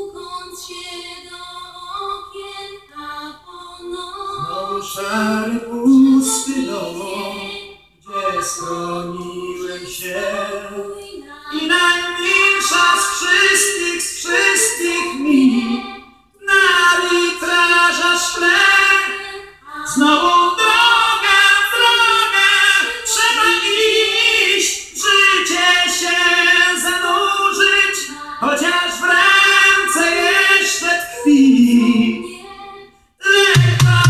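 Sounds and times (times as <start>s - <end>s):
voices singing in close harmony: 0.0s - 34.0s.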